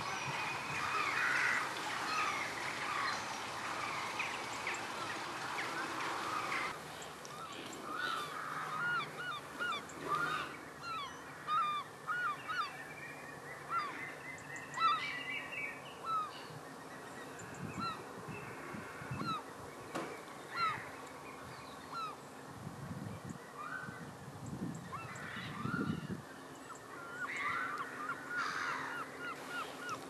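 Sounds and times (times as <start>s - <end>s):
flock of birds calling: 0.0s - 21.1s, 24.9s - 30.0s.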